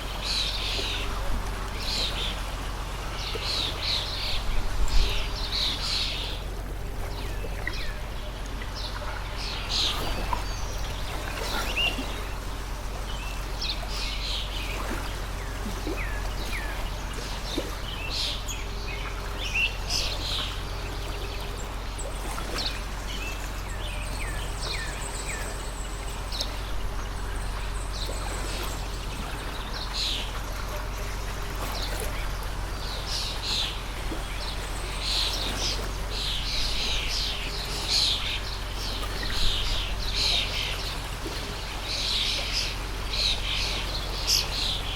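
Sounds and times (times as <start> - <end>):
small birds chirping: 0.0 - 44.9
stream of water running: 0.0 - 44.9.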